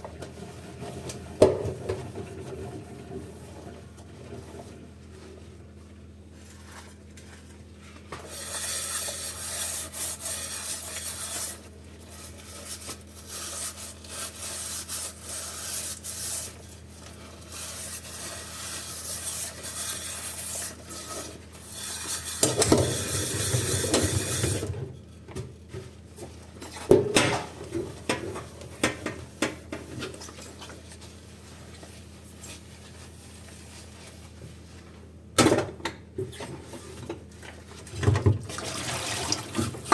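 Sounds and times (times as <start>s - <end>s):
water and scrubbing in sink: 0.2s - 35.0s, 36.2s - 39.9s.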